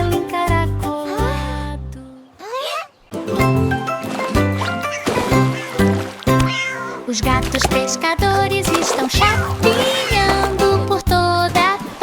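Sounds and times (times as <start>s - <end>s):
instrumental children's song: 0.0s - 2.4s, 3.1s - 12.0s.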